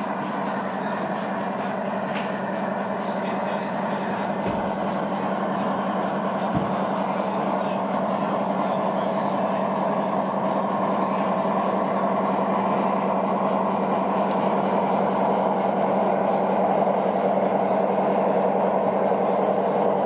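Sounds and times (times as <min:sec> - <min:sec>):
model diesel engine drone: 0:00.0 - 0:20.0.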